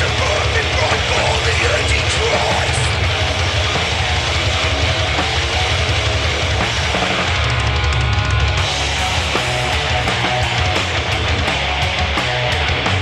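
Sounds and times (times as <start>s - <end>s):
drum kit and bass drum: 0.0s - 13.0s
loud fast punk band: 0.0s - 13.0s.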